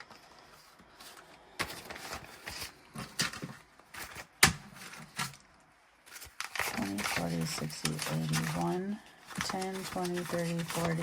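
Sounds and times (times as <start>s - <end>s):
paper banknotes rustling: 0.1s - 5.4s, 6.0s - 11.0s.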